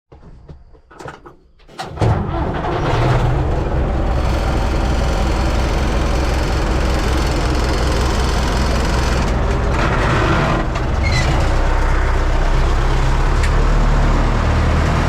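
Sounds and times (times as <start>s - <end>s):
tractor diesel engine running: 1.8s - 15.0s.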